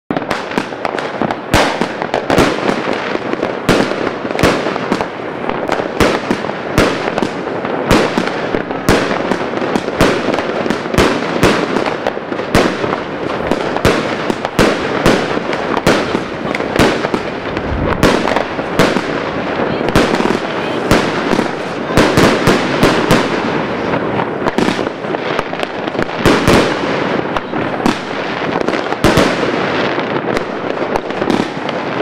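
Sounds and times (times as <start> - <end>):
firework bangs: 0.1 - 32.0.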